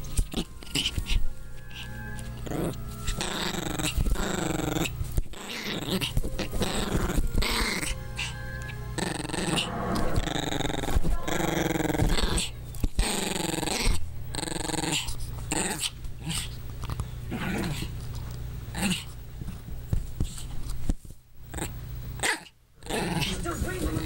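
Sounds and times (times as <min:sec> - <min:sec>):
small dog growling: 0:00.2 - 0:08.4, 0:09.0 - 0:18.0, 0:18.7 - 0:19.2, 0:21.5 - 0:23.4.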